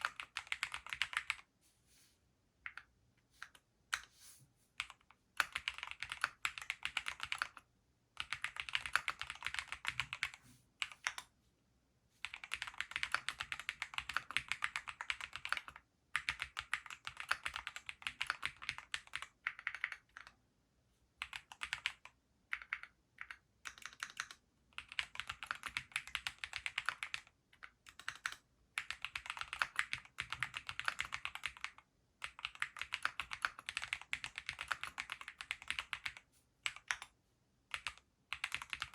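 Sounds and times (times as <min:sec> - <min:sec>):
mechanical keyboard typing: 0:00.0 - 0:01.5, 0:04.8 - 0:07.6, 0:08.2 - 0:11.3, 0:12.2 - 0:20.4, 0:21.2 - 0:37.1, 0:37.7 - 0:38.9.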